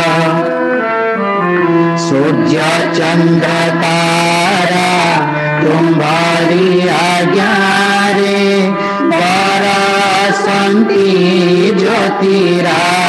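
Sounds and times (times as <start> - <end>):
steady drone: 0.0 - 13.0
person chanting a prayer: 1.9 - 13.0.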